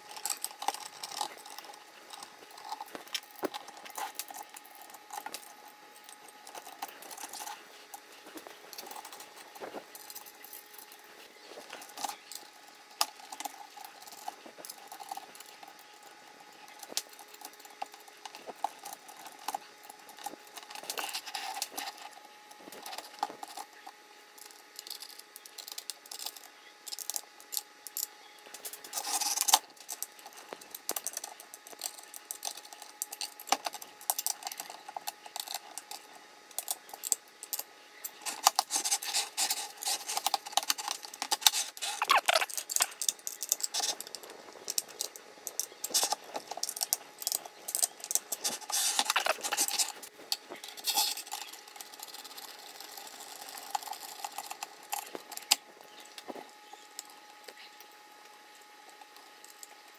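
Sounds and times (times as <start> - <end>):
metal parts clicking and rattling: 0.0 - 57.9.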